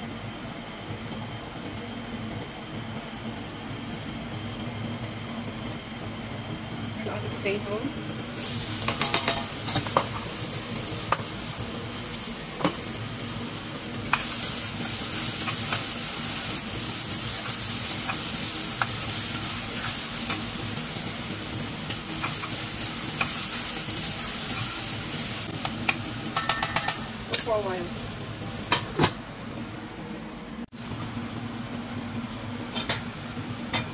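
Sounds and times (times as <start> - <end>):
potatoes and onion sizzling: 0.0 - 29.3, 30.7 - 33.9.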